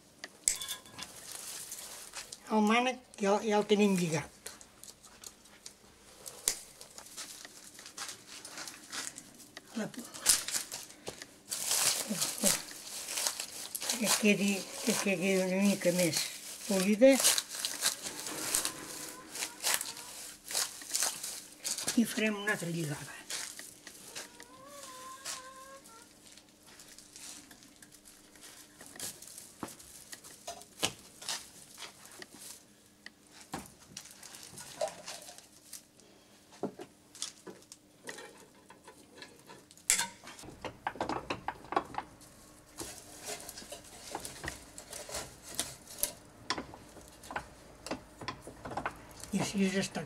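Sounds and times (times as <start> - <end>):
twigs rustling and crackling: 1.0 - 32.7, 33.3 - 36.2, 37.1 - 37.8, 42.1 - 50.0.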